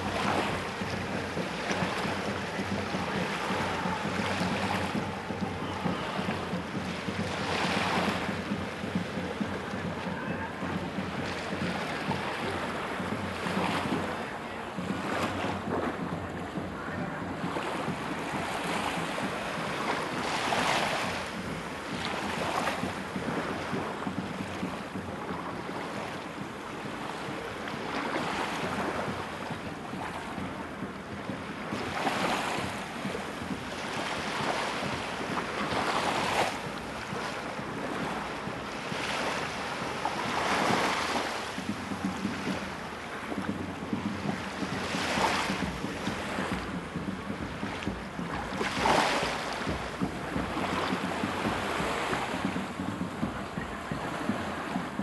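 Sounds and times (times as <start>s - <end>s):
small waves washing onto shore: 0.0s - 55.0s
wind rumbling on microphone: 0.0s - 55.0s.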